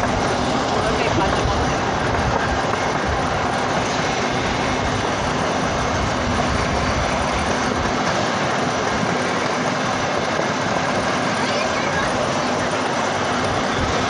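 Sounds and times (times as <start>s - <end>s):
freight train running: 0.0s - 14.0s.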